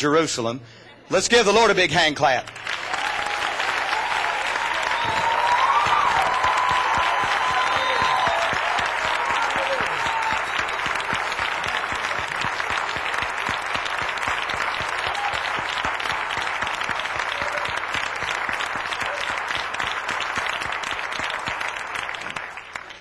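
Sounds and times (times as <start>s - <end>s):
congregation clapping: 2.4s - 23.0s.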